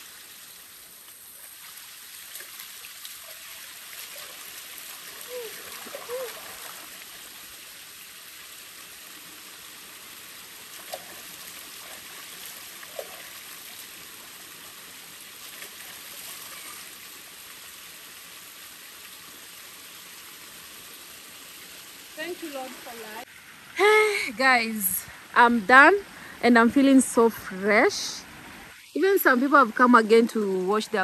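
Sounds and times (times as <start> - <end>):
river water running: 0.0 - 31.0.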